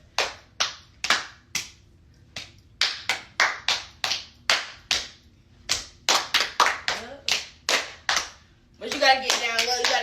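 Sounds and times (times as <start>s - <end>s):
hand claps in cheer rhythm: 0.0s - 10.0s.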